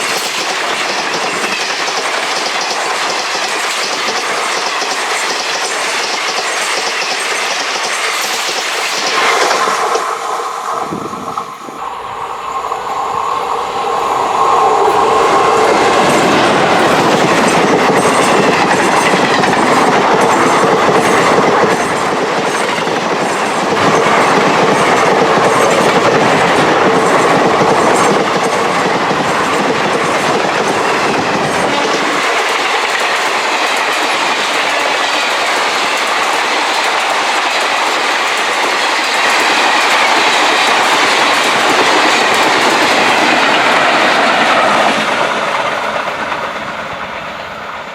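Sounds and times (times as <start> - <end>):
trains passing at speed: 0.0 - 47.9.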